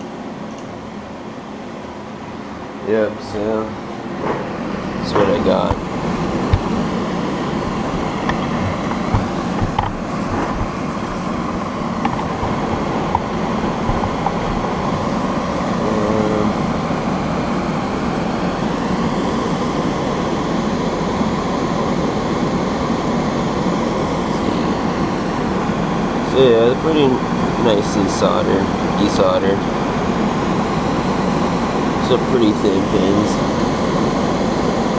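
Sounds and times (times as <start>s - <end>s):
exhaust fan running: 0.0s - 34.9s.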